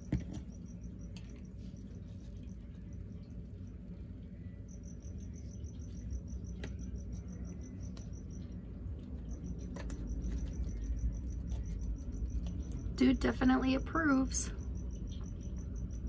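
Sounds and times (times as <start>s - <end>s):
cricket chirping trill: 0.0s - 16.0s.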